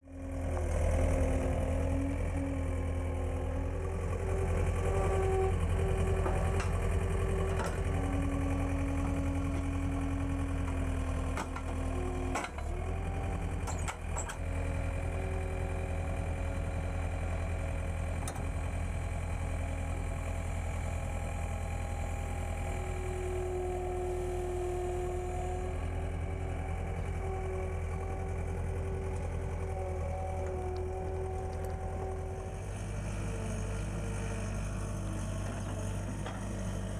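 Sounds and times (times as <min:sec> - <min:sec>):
loader diesel engine running: 0:00.0 - 0:36.9.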